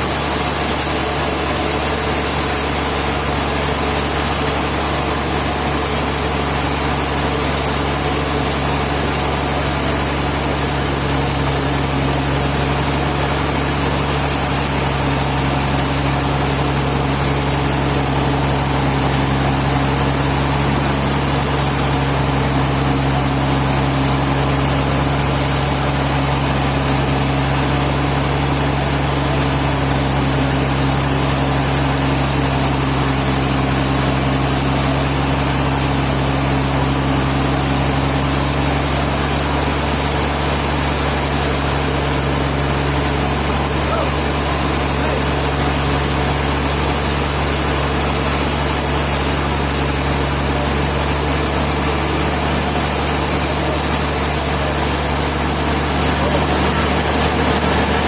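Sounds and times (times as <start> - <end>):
sawmill engine humming: 0.0 - 58.0.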